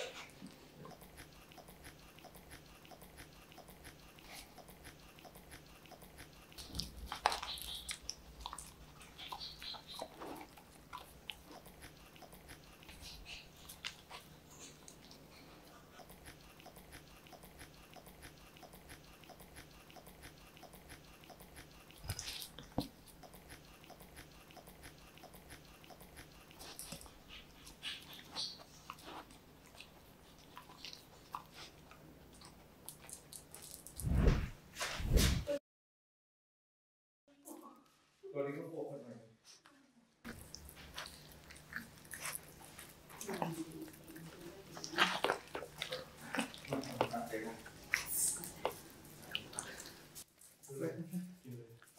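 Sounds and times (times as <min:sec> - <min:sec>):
dog chewing and licking: 0:00.0 - 0:34.0, 0:40.3 - 0:50.7.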